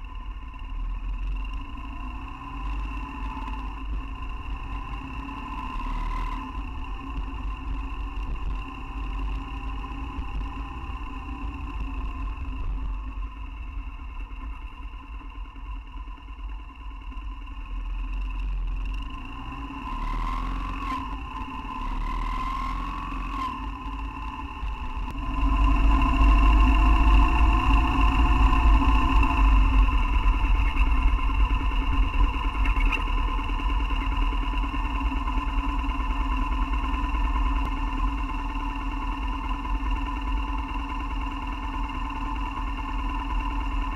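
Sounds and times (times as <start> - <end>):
motorcycle engine running: 0.0 - 43.9
wind rumbling on microphone: 0.0 - 43.9.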